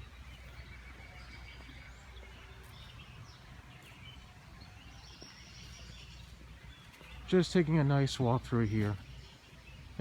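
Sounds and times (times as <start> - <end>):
faint birdsong: 0.0 - 10.0.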